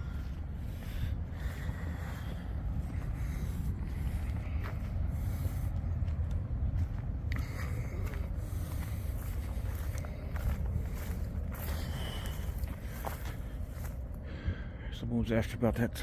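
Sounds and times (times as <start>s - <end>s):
faint footsteps on ground: 0.0s - 14.4s
wind rumbling on microphone: 0.0s - 14.7s.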